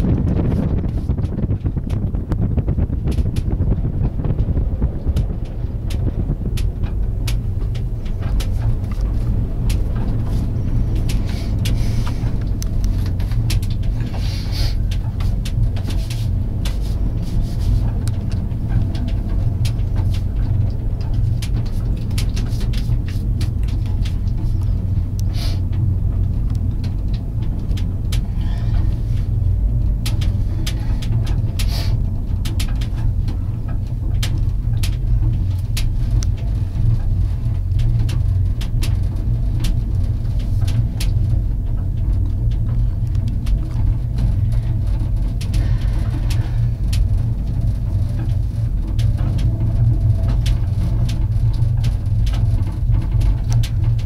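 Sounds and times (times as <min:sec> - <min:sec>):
gondola cabin rumble: 0:00.0 - 0:54.0
light clicks and ticks: 0:00.1 - 0:54.0.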